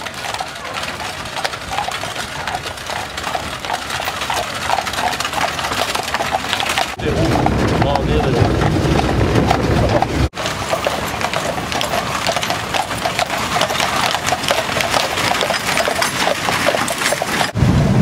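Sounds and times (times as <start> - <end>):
horse hooves clip-clopping on road: 0.0 - 17.6
wooden tram rattling and knocking: 0.0 - 17.6.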